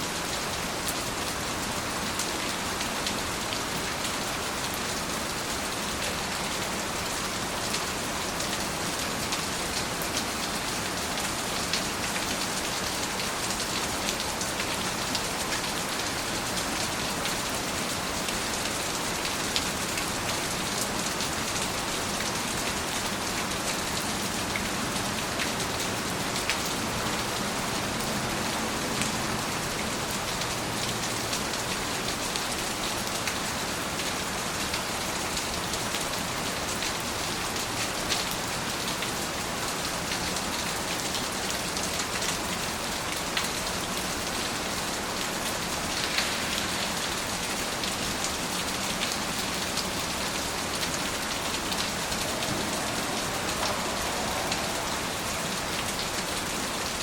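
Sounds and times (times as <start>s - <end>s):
rain falling: 0.0s - 57.0s
raindrops ticking on a surface: 0.2s - 57.0s.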